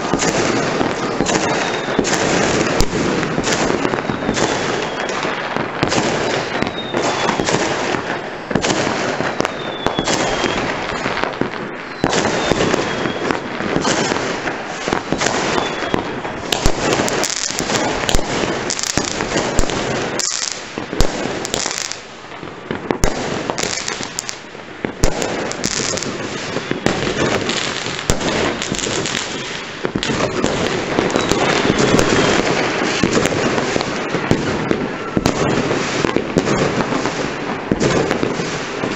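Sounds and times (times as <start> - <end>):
fireworks whistles falling in pitch: 0.0 - 22.1, 22.7 - 38.9
fireworks bangs and crackling: 0.0 - 38.9.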